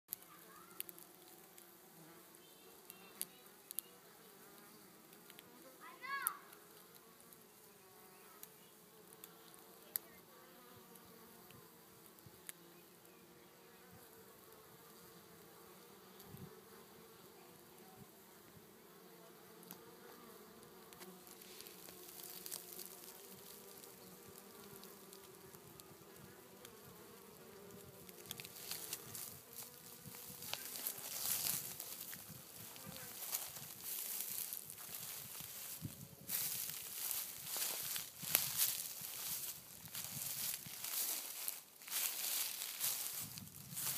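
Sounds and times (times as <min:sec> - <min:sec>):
bees buzzing: 0:00.2 - 0:43.9.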